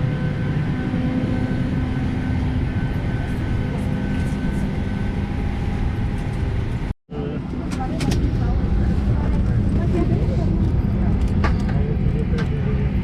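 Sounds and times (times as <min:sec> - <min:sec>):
aircraft auxiliary power unit rumble: 0:00.0 - 0:13.0.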